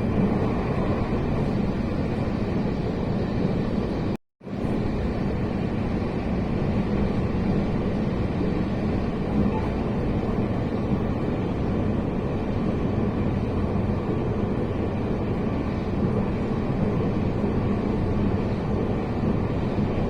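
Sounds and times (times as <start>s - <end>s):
train rumble inside carriage: 0.0s - 20.0s.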